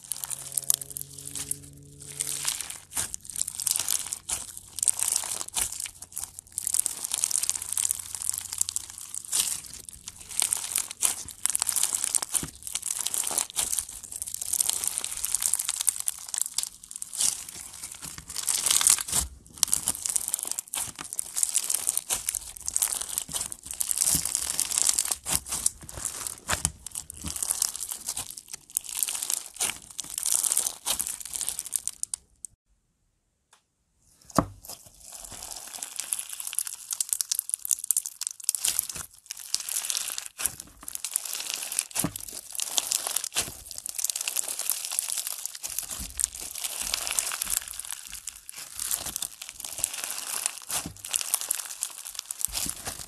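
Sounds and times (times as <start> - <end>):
crunchy slime crackling and popping: 0.0 - 32.6, 34.3 - 53.0.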